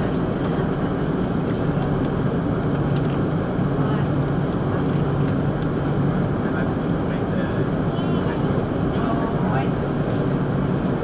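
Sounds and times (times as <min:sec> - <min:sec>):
engine drone and rumble: 0:00.0 - 0:11.0.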